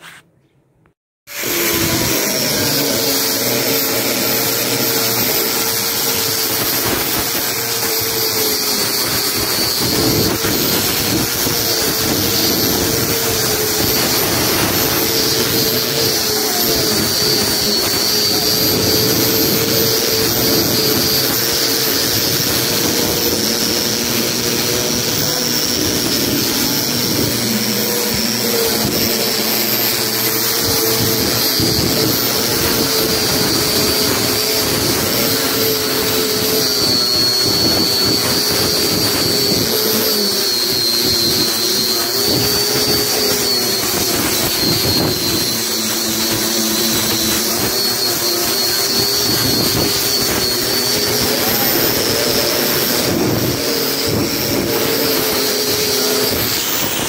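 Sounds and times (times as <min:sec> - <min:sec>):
rotary sander grinding fibreglass: 0:00.0 - 0:00.3, 0:01.3 - 0:57.0.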